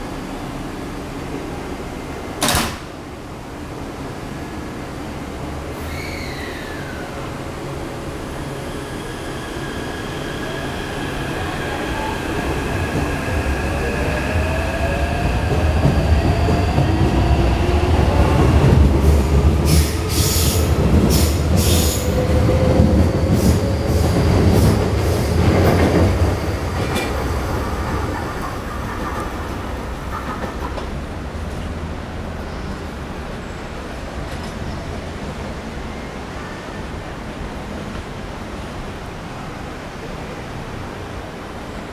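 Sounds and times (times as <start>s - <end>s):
low train rumble: 0.0s - 41.9s.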